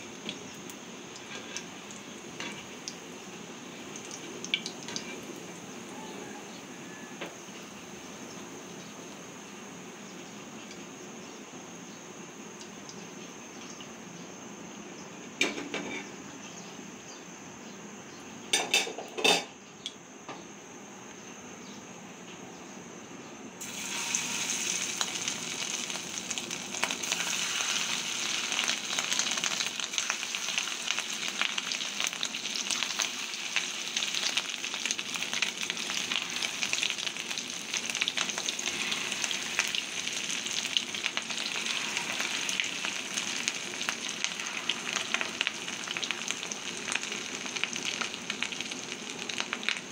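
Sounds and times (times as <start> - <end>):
food deep-frying in hot oil: 0.0 - 14.2, 23.6 - 49.9.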